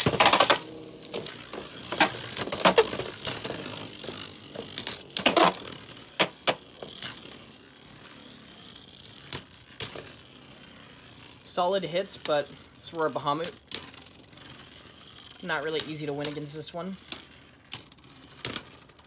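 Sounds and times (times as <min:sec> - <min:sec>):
faint spinning whir: 0:00.0 - 0:19.0
spinning tops clacking together: 0:00.0 - 0:19.0.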